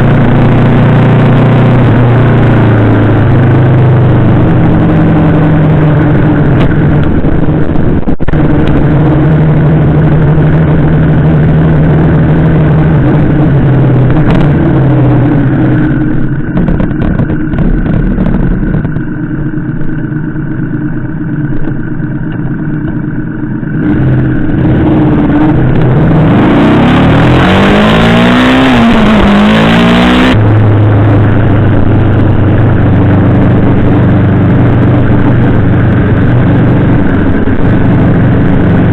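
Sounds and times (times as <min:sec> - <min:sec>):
rushing wind noise: 0:00.0 - 0:19.2, 0:23.8 - 0:38.9
motorcycle engine running: 0:00.0 - 0:38.9.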